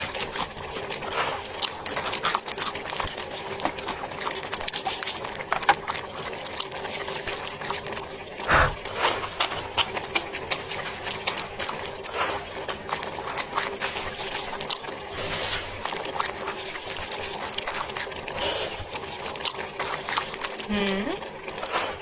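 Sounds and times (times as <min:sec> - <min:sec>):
close-up chewing and crunching: 0:00.0 - 0:22.0
small crackles and clicks: 0:00.0 - 0:22.0.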